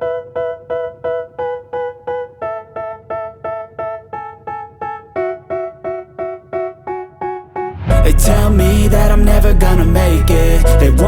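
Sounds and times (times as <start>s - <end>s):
keyboard playing repeated chords: 0.0s - 11.0s.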